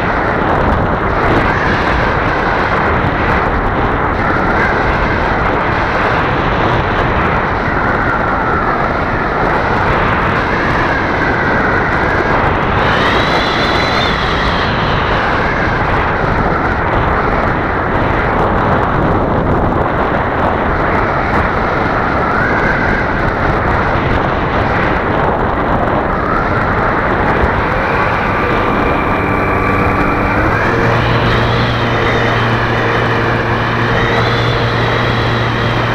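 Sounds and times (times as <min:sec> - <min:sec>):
model plane motor whine: 0:00.0 - 0:35.9
wind rushing over camera: 0:00.0 - 0:35.9.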